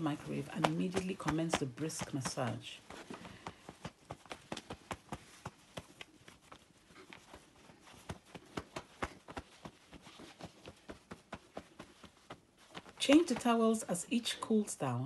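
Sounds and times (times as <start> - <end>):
towel patting skin: 0.0 - 14.0.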